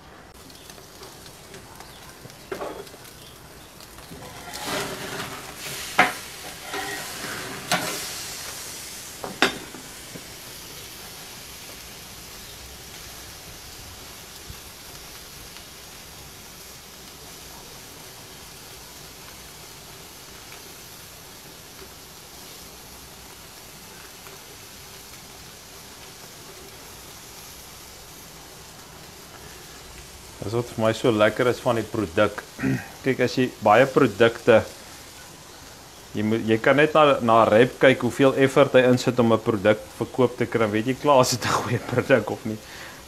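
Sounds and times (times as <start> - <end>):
steaks sizzling on grill: 0.0 - 43.0.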